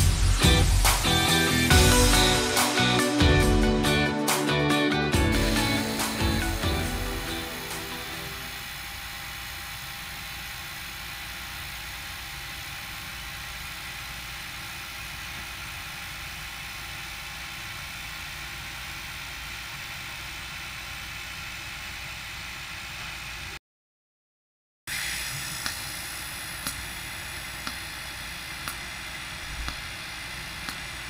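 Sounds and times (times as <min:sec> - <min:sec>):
welding arc hissing: 0:00.0 - 0:23.6, 0:24.9 - 0:31.0.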